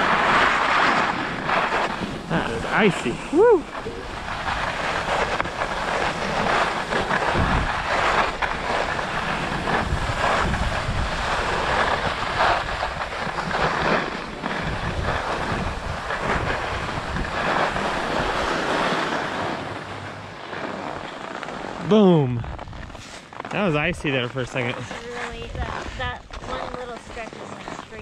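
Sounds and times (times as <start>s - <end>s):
wind on microphone: 0.0s - 20.1s, 23.8s - 28.0s
skis scraping on icy snow: 0.0s - 28.0s.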